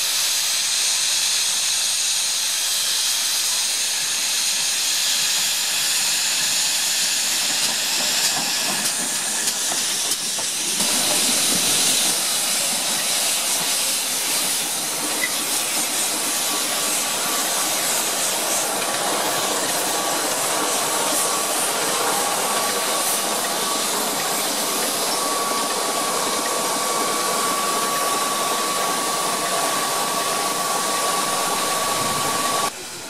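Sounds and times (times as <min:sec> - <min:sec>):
steam locomotive hissing: 0:00.0 - 0:33.0
train rolling slowly past: 0:00.0 - 0:33.0.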